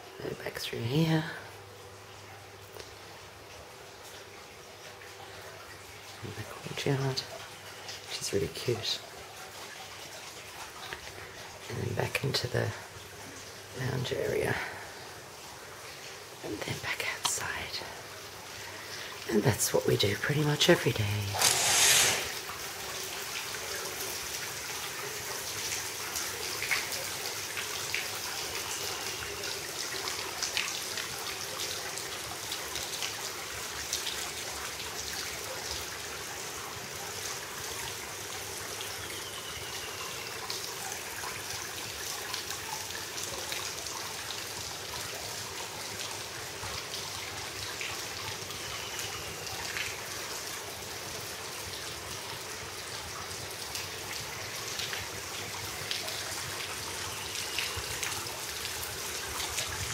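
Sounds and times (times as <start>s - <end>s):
water drips: 2.1s - 21.6s, 22.2s - 59.9s
running water splashing: 3.0s - 59.9s.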